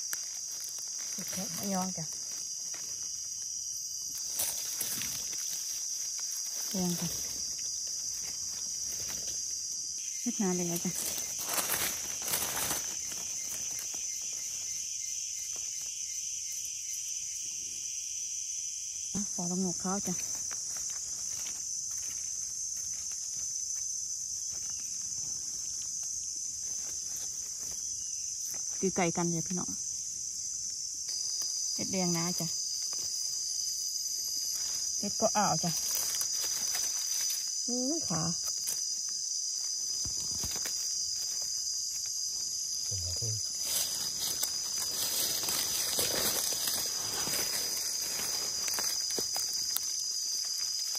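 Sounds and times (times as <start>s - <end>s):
rustles of dry leaf litter: 0.0s - 16.8s, 19.1s - 50.9s
high-pitched insect chorus: 0.0s - 50.9s.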